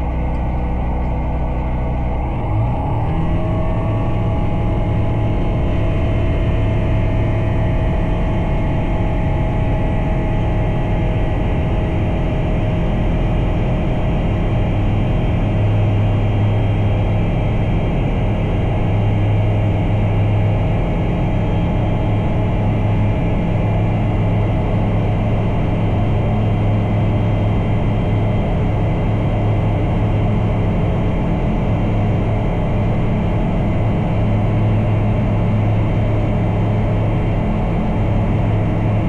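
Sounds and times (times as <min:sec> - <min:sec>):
propeller aircraft engine droning: 0:00.0 - 0:39.0.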